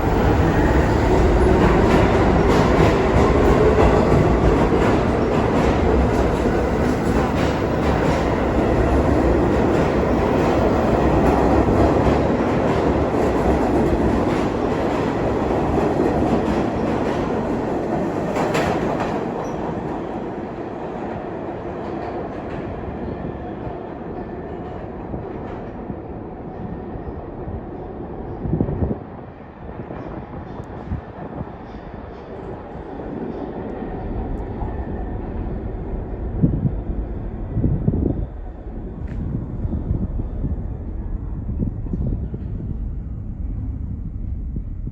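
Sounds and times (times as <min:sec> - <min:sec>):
subway train clattering over rails: 0:00.0 - 0:44.9.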